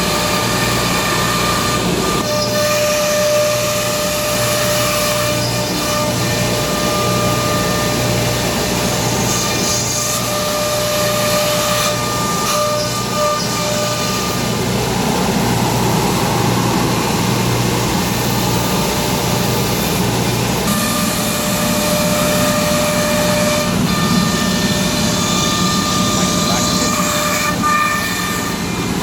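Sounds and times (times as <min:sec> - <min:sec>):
cnc router whine: 0:00.0 - 0:29.0
machining noise: 0:00.0 - 0:29.0.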